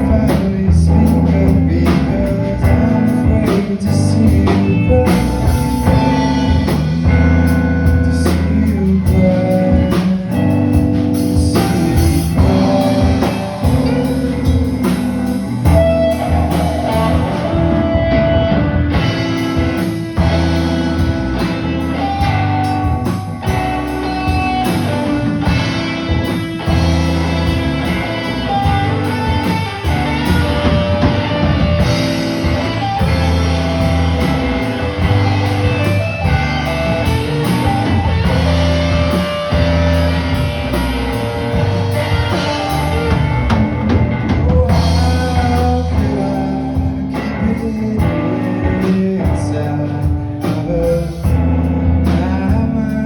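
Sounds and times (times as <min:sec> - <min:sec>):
electric guitar playing: 0:00.0 - 0:53.0
rock blues band playing: 0:00.0 - 0:53.0.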